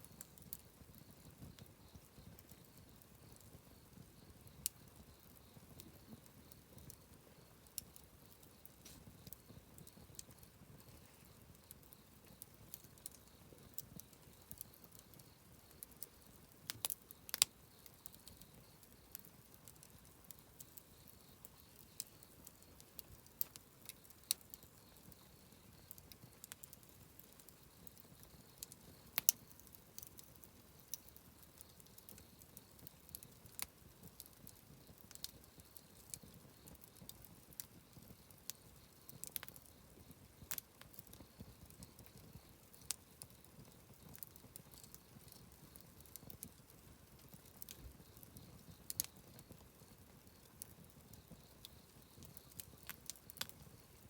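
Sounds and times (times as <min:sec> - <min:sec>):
campfire crackling and popping: 0:00.0 - 0:54.0
low hiss of burning: 0:00.0 - 0:54.0.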